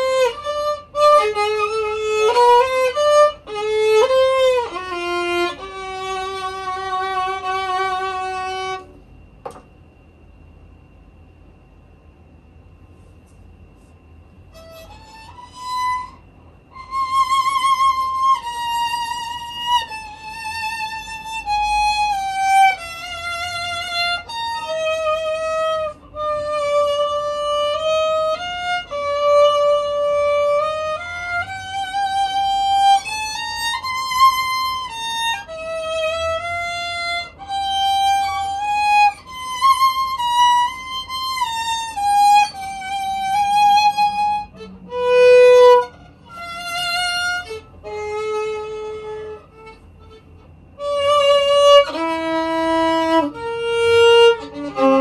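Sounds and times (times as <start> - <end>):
solo viola melody: 0.0 - 9.0, 14.5 - 55.0.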